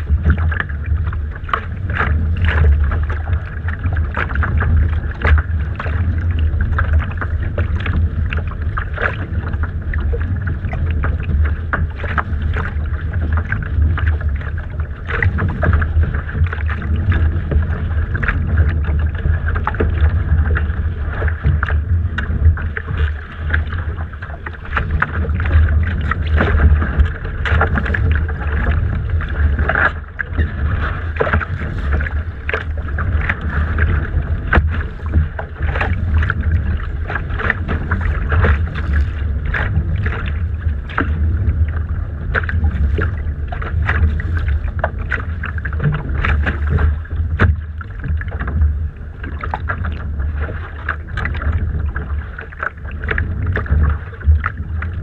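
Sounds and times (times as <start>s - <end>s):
water splashing against hull: 0.0s - 55.0s
wind rumble on microphone: 0.0s - 55.0s.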